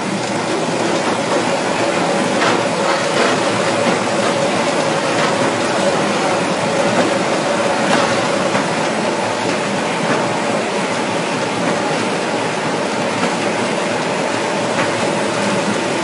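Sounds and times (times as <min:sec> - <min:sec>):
lathe machine running: 0:00.0 - 0:16.0.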